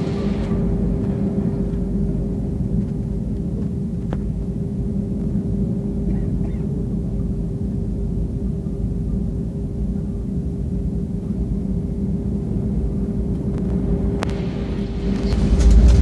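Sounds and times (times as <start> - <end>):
constant hum: 0.0 - 16.0
jet airliner taxiing rumble: 0.0 - 16.0.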